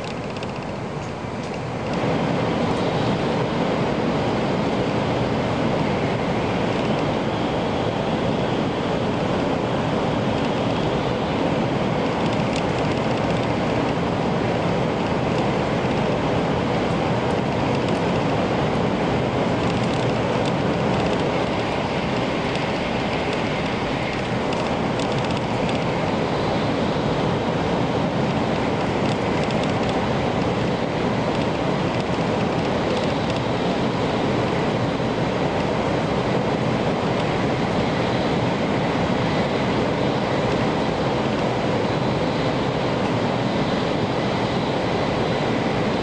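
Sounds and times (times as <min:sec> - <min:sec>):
train rushing through tunnel: 0:00.0 - 0:46.0.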